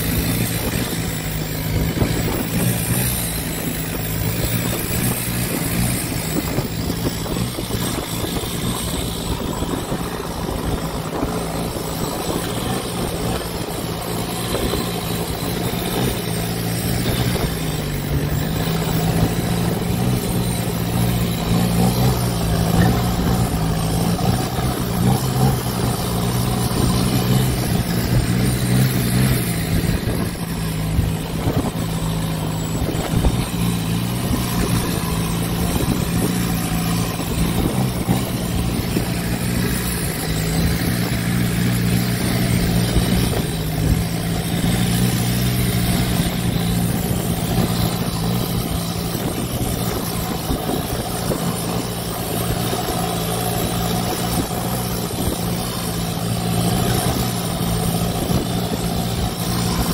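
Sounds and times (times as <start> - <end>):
boat engine running: 0.0 - 59.9
wind: 0.0 - 59.9.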